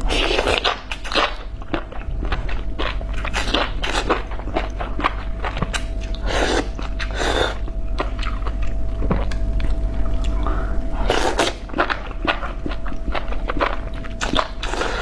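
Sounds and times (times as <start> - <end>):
close chewing with wet clicks: 0.6 - 10.4, 11.4 - 14.7.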